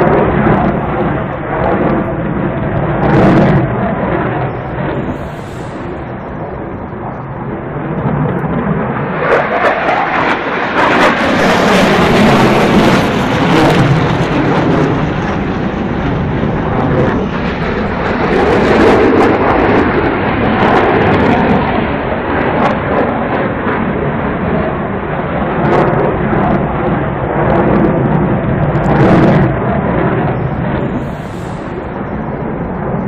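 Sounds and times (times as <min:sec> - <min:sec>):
fighter jet engine roar: 0:00.0 - 0:33.0.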